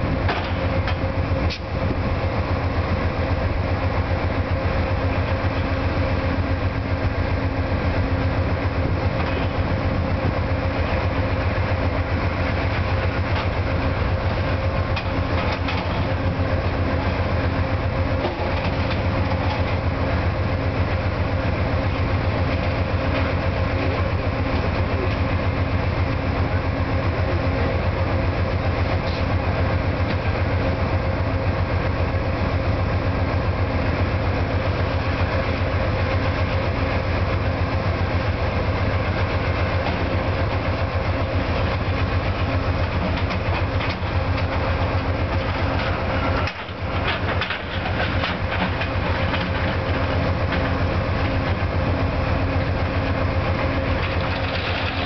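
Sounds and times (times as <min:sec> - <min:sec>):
diesel locomotive engines idling: 0:00.0 - 0:55.0.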